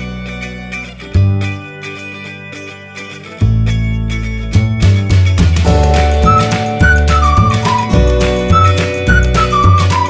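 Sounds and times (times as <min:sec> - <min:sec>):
plucked guitar music: 0:00.0 - 0:10.0.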